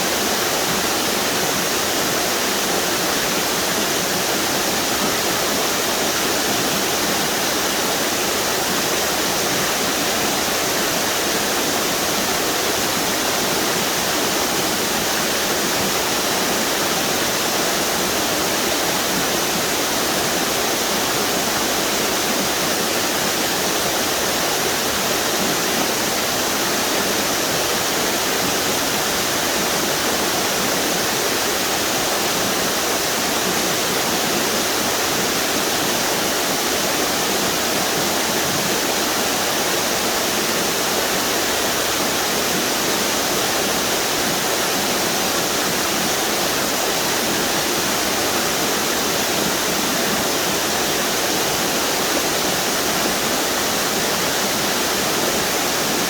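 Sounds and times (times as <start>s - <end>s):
water rushing over waterfalls: 0.0s - 56.0s.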